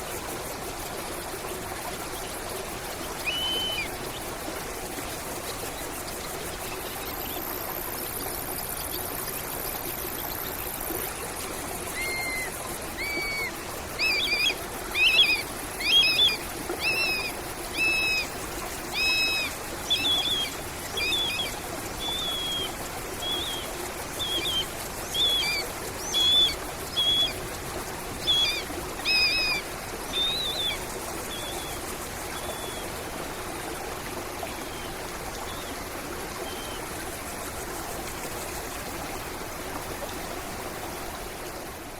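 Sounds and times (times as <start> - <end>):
stream running: 0.0 - 41.9.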